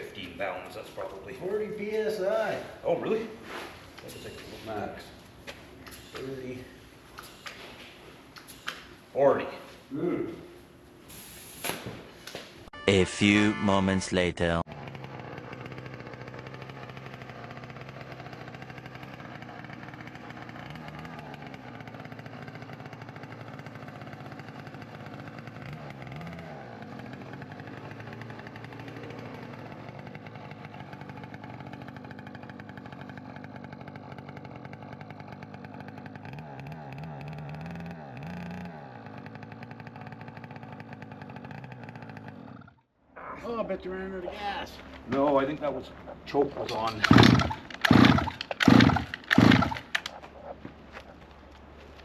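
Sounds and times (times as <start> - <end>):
small motorbike engine idling: 0.0 - 9.3, 14.4 - 42.9, 44.8 - 52.0.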